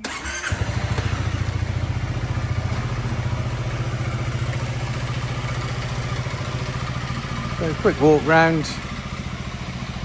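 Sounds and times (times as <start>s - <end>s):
scooter engine idling: 0.1s - 10.0s.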